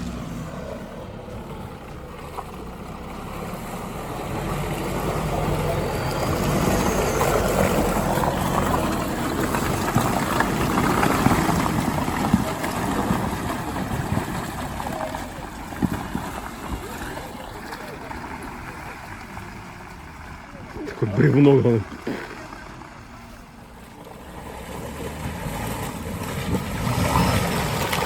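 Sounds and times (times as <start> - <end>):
vehicle engine under load: 0.0 - 28.0
water splashing: 3.8 - 28.0.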